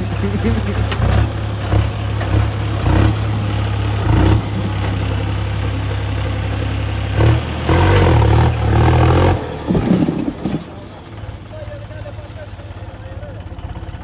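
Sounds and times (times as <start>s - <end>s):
tractor diesel engine revving: 0.0s - 14.0s.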